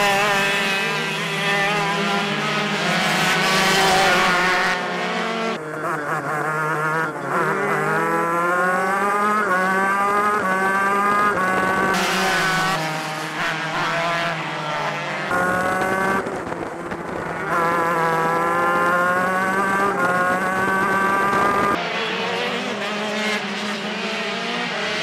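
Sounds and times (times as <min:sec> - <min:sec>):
kart engines revving: 0:00.0 - 0:25.0.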